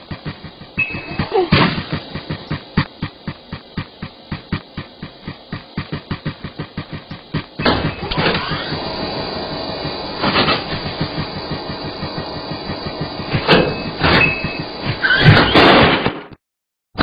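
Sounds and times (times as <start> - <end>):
cartoon treadmill clatter: 0.0 - 15.7.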